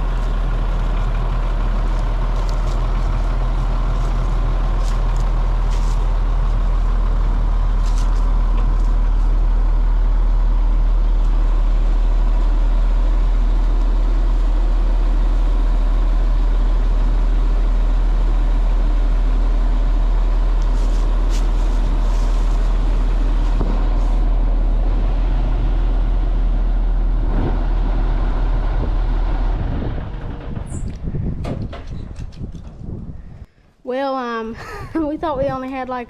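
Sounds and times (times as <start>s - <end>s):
vehicle engine humming: 0.0s - 33.5s.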